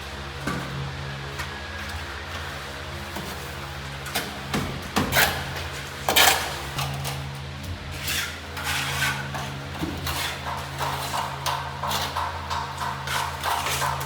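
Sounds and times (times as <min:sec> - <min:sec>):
scraping and knocking strokes: 0:01.9 - 0:14.0.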